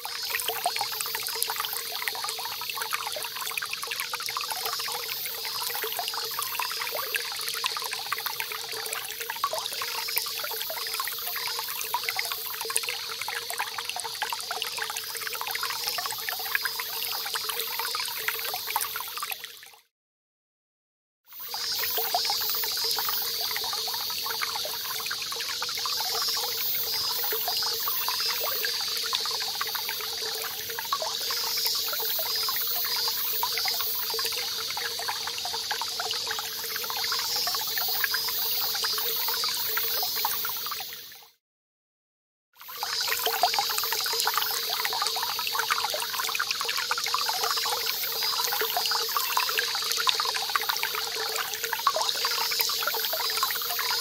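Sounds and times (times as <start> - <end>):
cicadas singing: 0.0 - 19.3, 21.4 - 41.3, 42.6 - 54.0
small stream running: 0.0 - 19.9, 21.3 - 41.4, 42.6 - 54.0.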